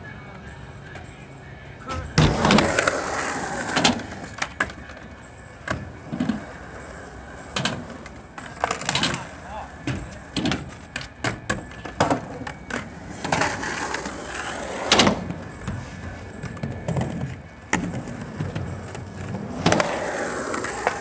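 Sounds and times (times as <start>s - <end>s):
skateboard wheels rolling on concrete: 0.0s - 21.0s
skateboard clacking on ground: 1.9s - 21.0s.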